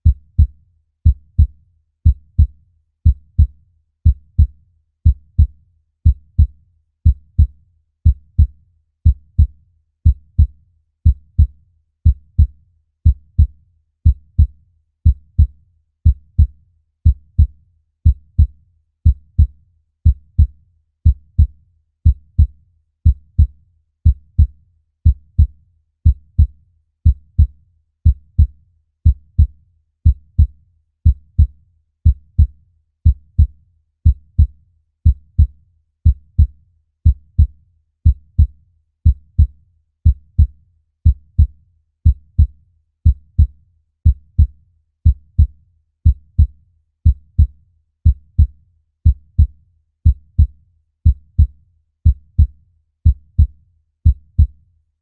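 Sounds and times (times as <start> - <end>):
heartbeat: 0.0 - 54.6.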